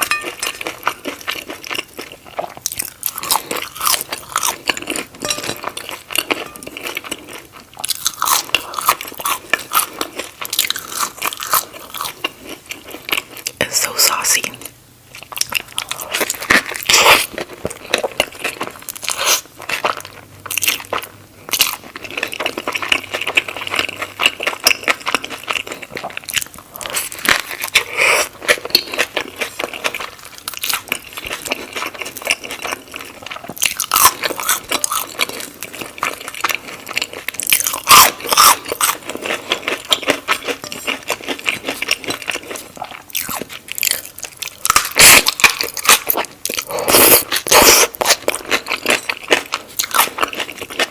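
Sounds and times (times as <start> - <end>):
crunchy bites and chewing: 0.0 - 13.2, 15.2 - 50.9.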